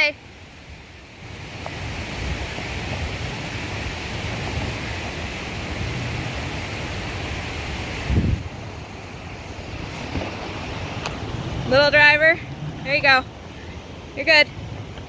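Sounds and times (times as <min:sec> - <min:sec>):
wind buffeting microphone: 0:00.6 - 0:15.0.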